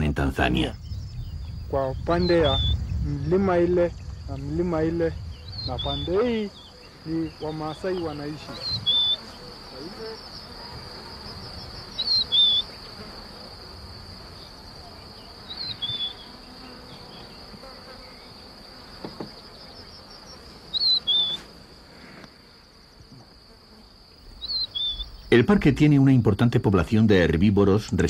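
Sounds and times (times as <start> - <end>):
high-pitched insect trill: 0.0 - 21.6, 22.3 - 28.0.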